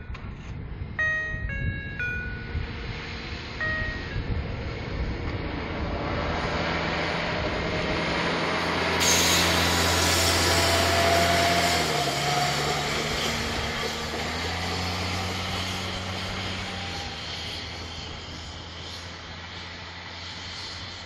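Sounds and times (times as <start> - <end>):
diesel railbus engine passing: 0.0 - 21.0
wheels rushing on rails: 0.0 - 21.0.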